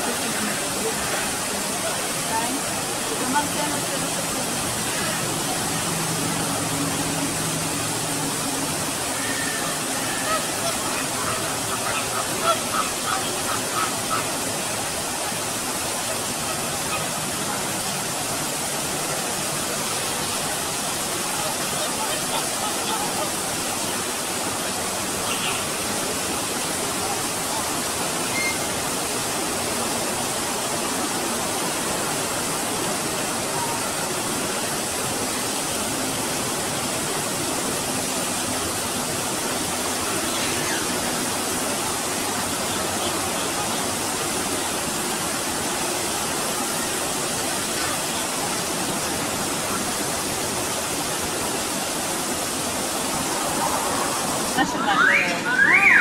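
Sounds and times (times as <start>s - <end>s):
waterfall pouring into pool: 0.0s - 56.0s.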